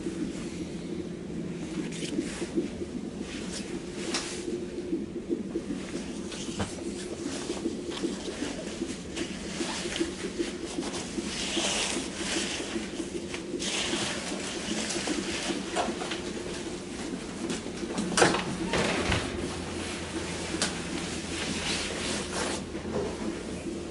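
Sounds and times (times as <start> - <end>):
low fluttering hum: 0.0 - 23.9.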